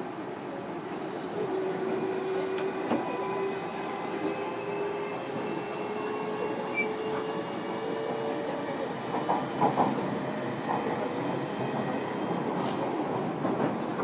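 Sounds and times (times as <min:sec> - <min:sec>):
wheels rumbling on rail: 0:00.5 - 0:14.0.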